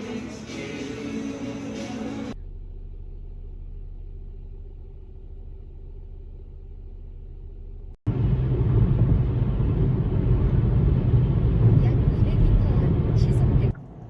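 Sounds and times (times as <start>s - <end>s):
vehicle rumble: 2.0s - 14.0s.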